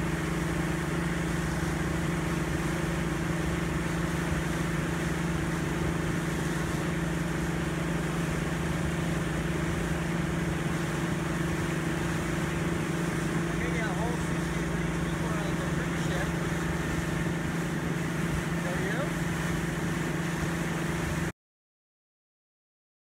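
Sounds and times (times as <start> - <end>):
motorboat engine droning: 0.0 - 21.3
water rushing: 0.0 - 21.3.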